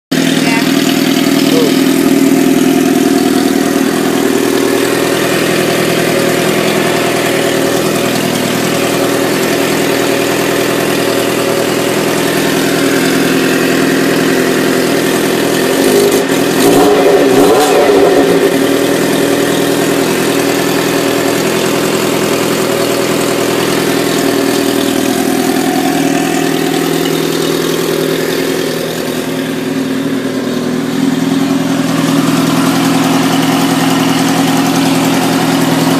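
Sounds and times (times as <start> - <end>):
motorcycle engine idling: 0.1 - 35.9.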